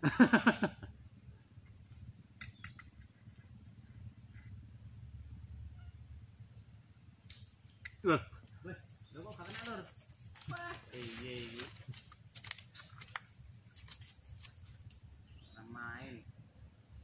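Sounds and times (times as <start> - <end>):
distant bird calls: 1.4 - 17.0.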